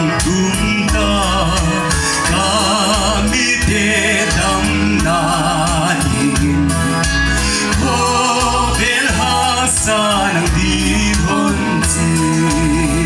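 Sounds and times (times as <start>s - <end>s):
electric guitars and bass band: 0.0s - 13.0s
man singing into microphone: 0.0s - 13.0s.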